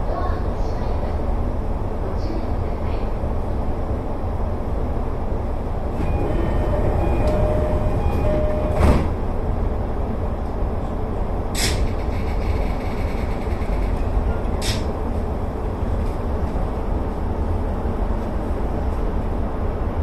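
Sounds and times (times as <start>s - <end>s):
electric train rumbling on rails: 0.0s - 20.0s.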